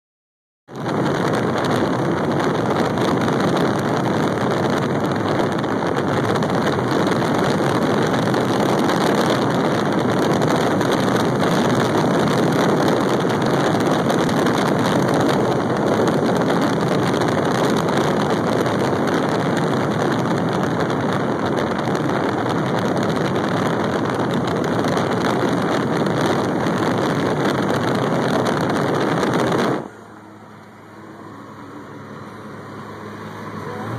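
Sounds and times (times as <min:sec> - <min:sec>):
car road noise: 0:00.7 - 0:33.9
wind rushing over microphone: 0:00.7 - 0:33.9.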